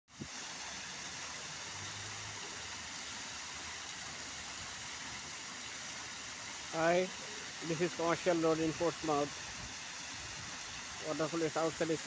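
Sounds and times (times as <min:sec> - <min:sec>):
fountain water splashing: 0:00.1 - 0:12.0.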